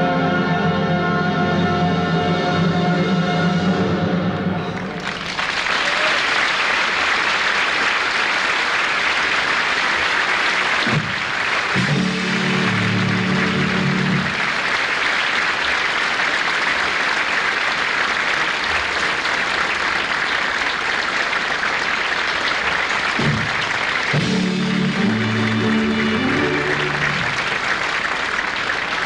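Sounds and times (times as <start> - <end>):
audience applauding: 4.7 - 29.0.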